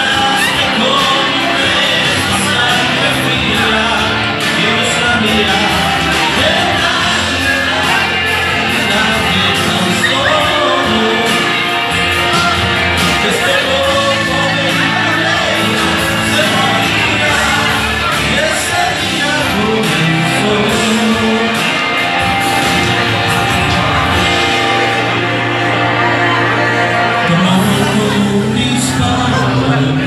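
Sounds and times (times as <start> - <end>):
karaoke backing track: 0.0 - 30.0
man singing into a microphone: 0.0 - 30.0.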